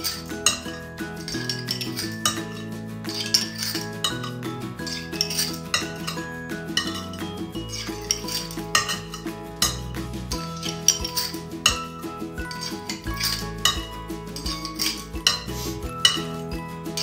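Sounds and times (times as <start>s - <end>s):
utensil clinking on ceramic dish: 0.0s - 11.8s, 12.4s - 16.4s
background music: 0.0s - 17.0s.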